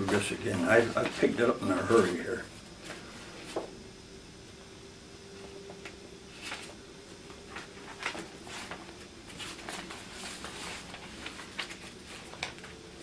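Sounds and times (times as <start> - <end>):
papers rustling and shuffling: 0.0 - 3.7, 5.8 - 13.0.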